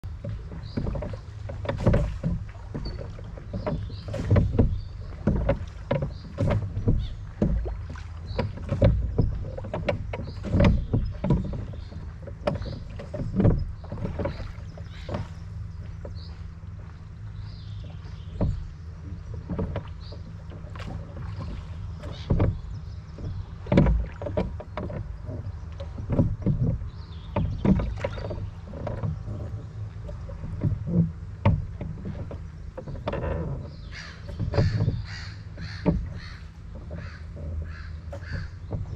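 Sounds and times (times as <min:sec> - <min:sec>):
oars splashing in water: 0:00.0 - 0:38.9
oar knocks: 0:00.1 - 0:38.9
small birds chirping: 0:00.2 - 0:31.0, 0:31.9 - 0:38.9.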